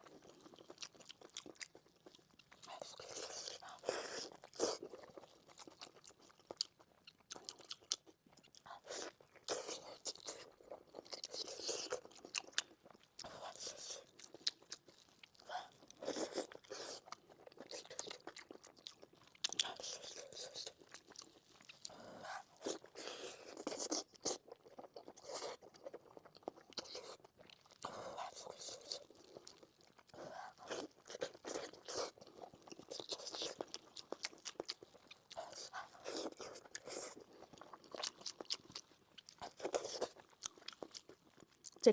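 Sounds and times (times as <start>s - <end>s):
mouth chewing and smacking: 0.0s - 41.9s.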